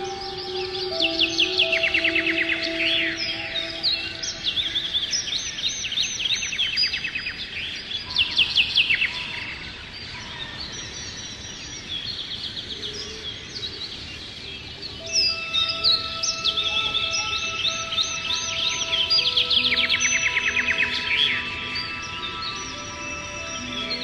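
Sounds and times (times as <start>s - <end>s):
songbirds chirping and trilling: 0.0s - 24.0s
steady background hiss: 0.0s - 24.0s.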